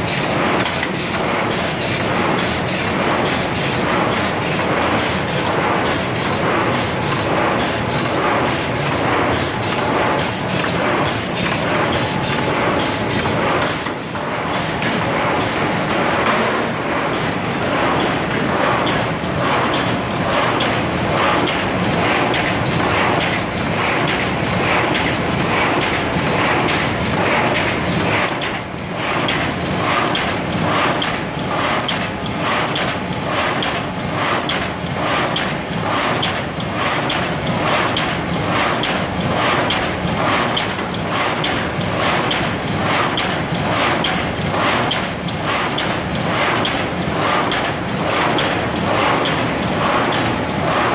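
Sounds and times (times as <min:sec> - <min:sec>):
regular mechanical clatter: 0:00.0 - 0:50.9.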